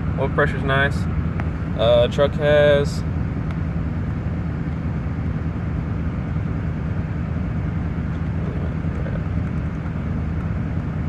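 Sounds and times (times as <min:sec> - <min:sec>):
diesel engine high idle: 0:00.0 - 0:11.0.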